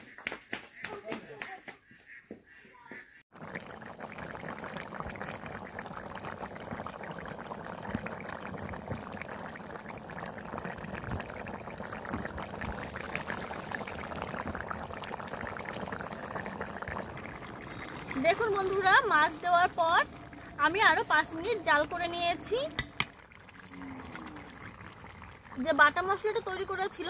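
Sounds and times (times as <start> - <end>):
curry bubbling in a pan: 3.3 - 27.0.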